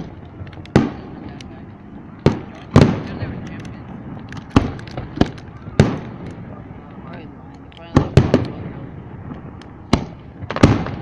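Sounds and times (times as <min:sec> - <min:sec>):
small firework pops: 0:00.0 - 0:01.6, 0:02.2 - 0:06.5, 0:07.4 - 0:11.0
firework bangs echoing: 0:00.0 - 0:11.0.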